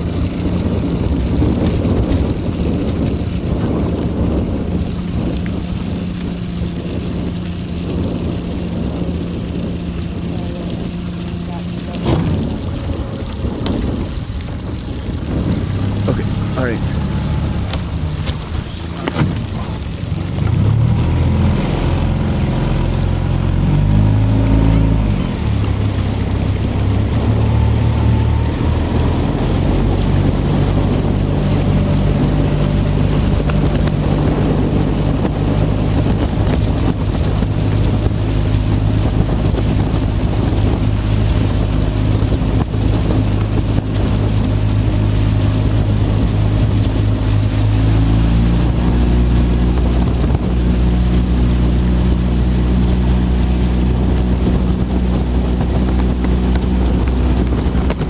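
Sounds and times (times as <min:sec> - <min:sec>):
outboard motor running: 0:00.0 - 0:58.0
water noise: 0:00.0 - 0:58.0
wind: 0:00.0 - 0:58.0.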